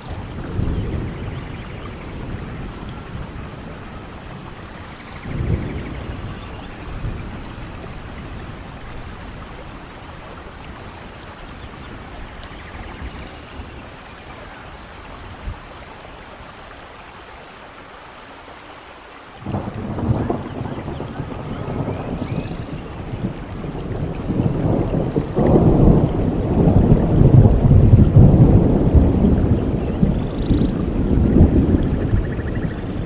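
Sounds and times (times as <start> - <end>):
low rumbles of thunder: 0.0 - 16.5, 19.4 - 33.0
steady rain falling: 0.0 - 33.0.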